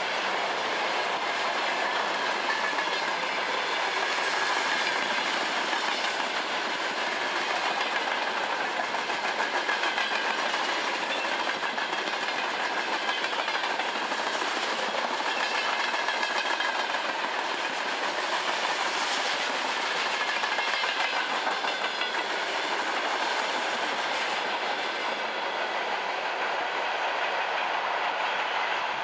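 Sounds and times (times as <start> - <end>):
freight train wheels on rails: 0.0 - 29.0.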